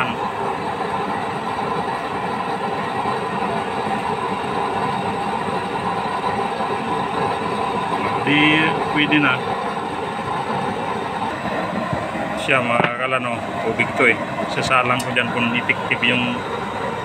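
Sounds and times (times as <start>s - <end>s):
stove flame rushing: 0.0s - 17.0s.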